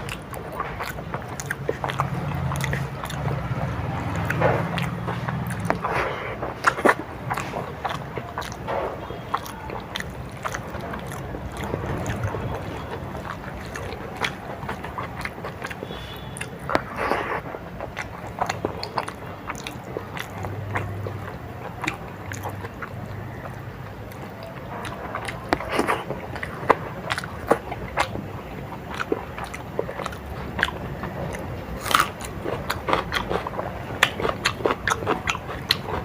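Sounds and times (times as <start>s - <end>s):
person biting and chewing: 0.0s - 36.0s
steady low hum: 0.0s - 36.0s.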